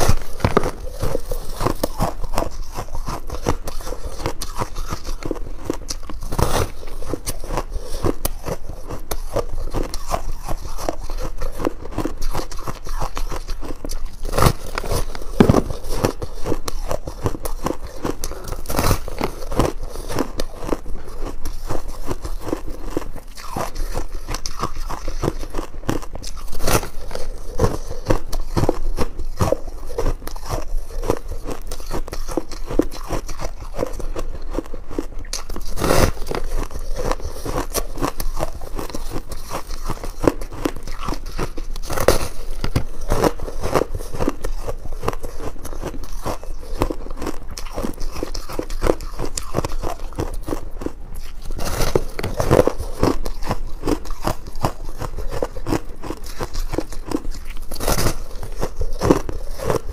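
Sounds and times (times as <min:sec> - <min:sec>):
chewing crunchy ice: 0:00.0 - 0:59.9.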